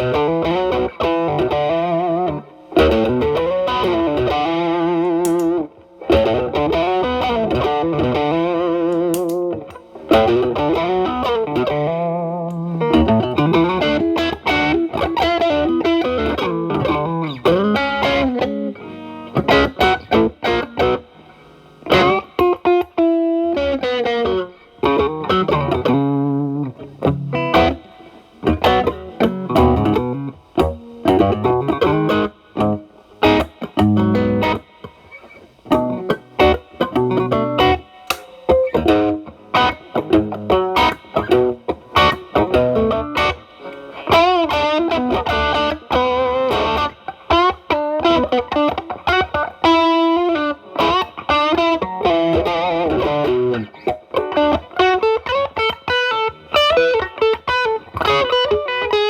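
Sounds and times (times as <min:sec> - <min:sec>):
distorted electric guitar lead: 0:00.0 - 0:59.0.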